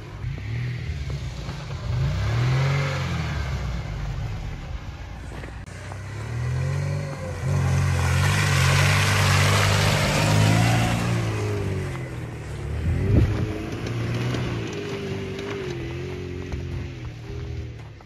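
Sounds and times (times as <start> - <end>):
car engine revving: 0.0 - 18.0
tyres churning mud and snow: 0.0 - 18.0.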